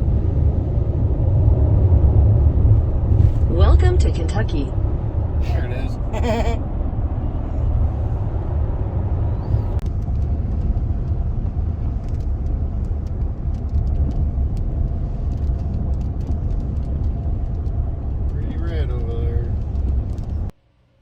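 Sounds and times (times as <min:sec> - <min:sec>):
road and engine rumble in car: 0:00.0 - 0:20.6.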